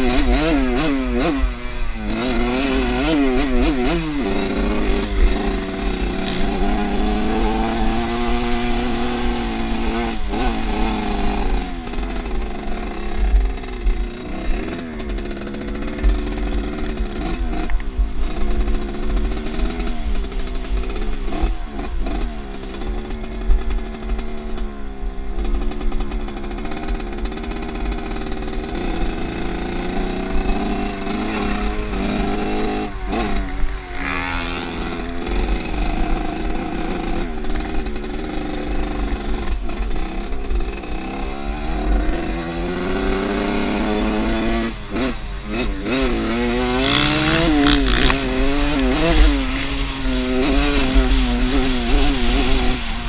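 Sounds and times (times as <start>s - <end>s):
off-road motorcycle engine: 0.0s - 53.0s.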